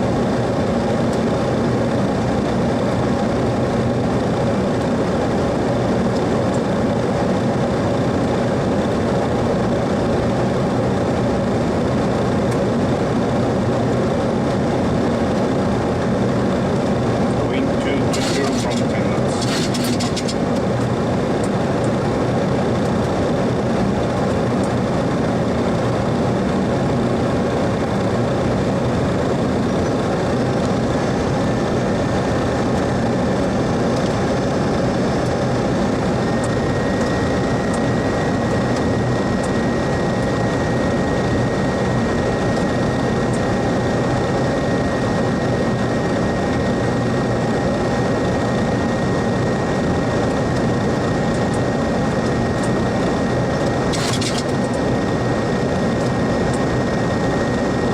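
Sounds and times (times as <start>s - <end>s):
aircraft engines idling: 0.0s - 57.9s.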